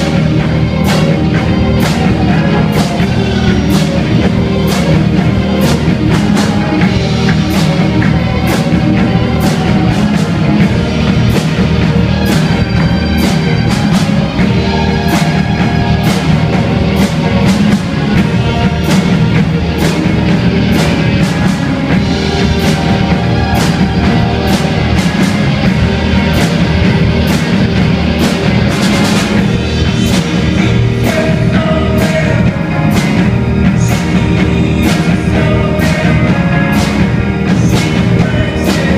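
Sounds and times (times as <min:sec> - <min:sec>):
drum kit with cymbals and snare: 0:00.0 - 0:38.9
electric guitars: 0:00.0 - 0:38.9
keyboard: 0:00.0 - 0:38.9.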